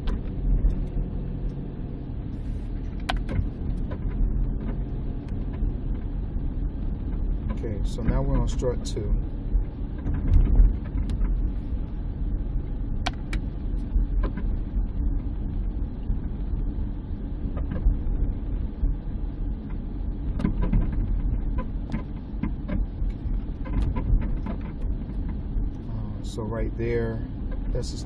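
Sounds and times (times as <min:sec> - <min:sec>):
low suspension rumble: 0:00.0 - 0:28.0.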